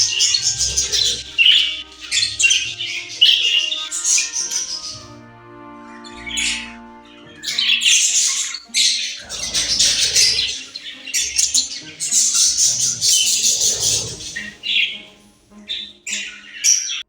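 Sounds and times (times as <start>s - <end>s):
budgerigar chattering and squawking: 0.0s - 5.2s, 6.0s - 17.0s.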